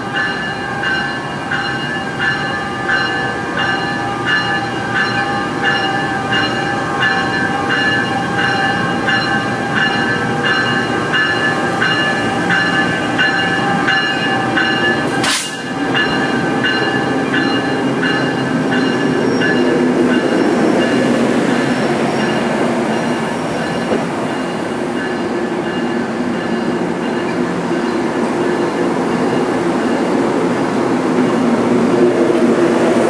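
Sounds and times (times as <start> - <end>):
rumble of train cars: 0.0 - 33.0.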